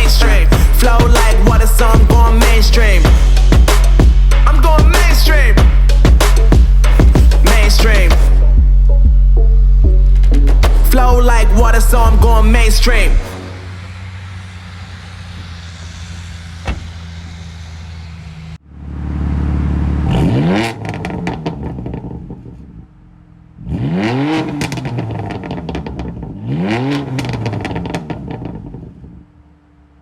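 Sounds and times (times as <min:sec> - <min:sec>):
car engine revving: 0:00.0 - 0:30.0
exhaust crackling: 0:00.0 - 0:30.0.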